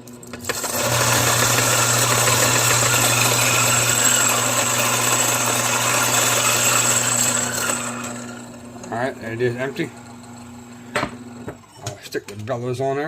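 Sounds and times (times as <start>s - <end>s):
coffee grinder running: 0.0s - 11.7s.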